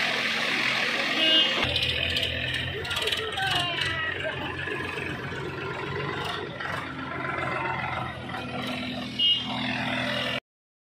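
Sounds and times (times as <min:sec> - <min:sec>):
tractor engine running: 0:00.0 - 0:10.4.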